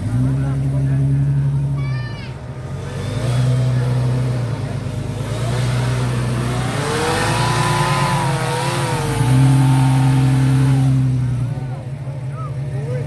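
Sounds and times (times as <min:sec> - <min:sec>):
off-road engine steady revving: 0:00.0 - 0:13.0
off-road engine wavering revs: 0:00.0 - 0:13.0.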